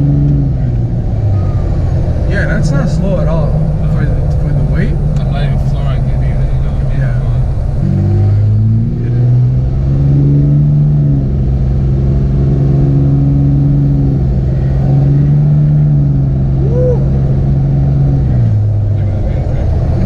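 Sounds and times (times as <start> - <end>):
diesel engine drone in cab: 0.0 - 20.0.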